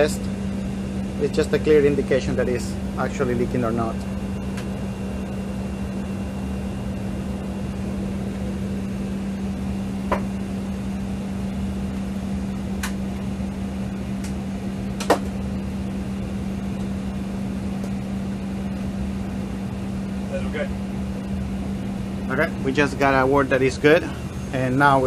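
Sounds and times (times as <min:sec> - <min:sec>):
air conditioning hum: 0:00.0 - 0:25.0.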